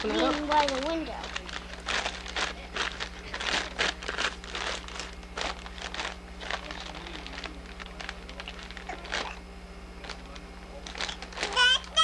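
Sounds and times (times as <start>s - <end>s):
wrapping paper crinkling: 0.0s - 9.4s, 10.0s - 12.0s.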